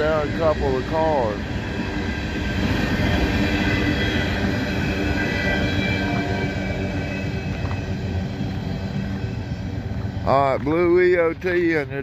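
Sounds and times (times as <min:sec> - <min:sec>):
freight wheels rumbling on rails: 0:00.0 - 0:12.0.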